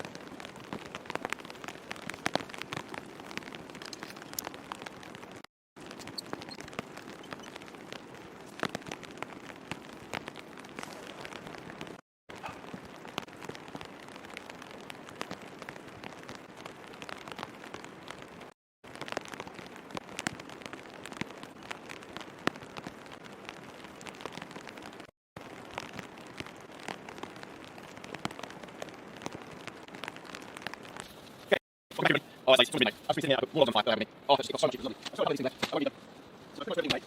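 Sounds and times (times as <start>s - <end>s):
steady rain drops: 0.0s - 37.0s.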